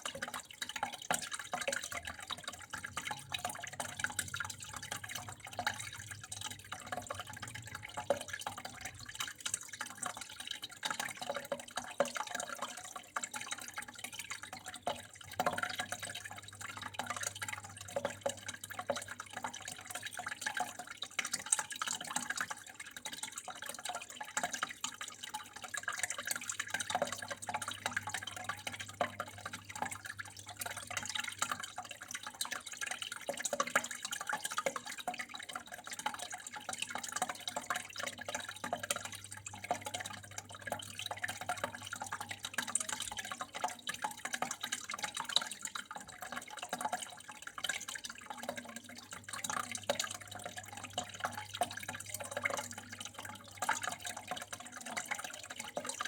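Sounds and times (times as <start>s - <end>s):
drips and splashes: 0.0s - 56.0s
water running and trickling: 0.0s - 56.0s.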